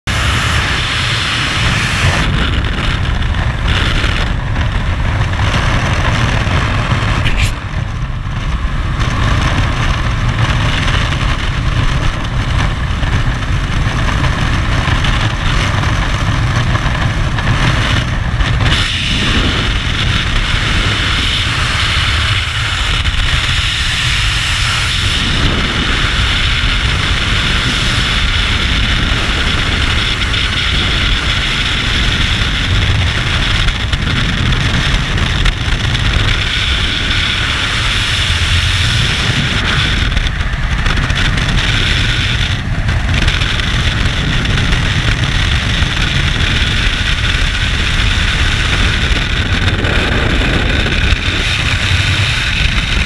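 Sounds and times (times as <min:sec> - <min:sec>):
freefall wind on microphone: 0:00.0 - 0:53.0
plane engine drone: 0:00.0 - 0:53.0
wind blast: 0:00.0 - 0:53.0.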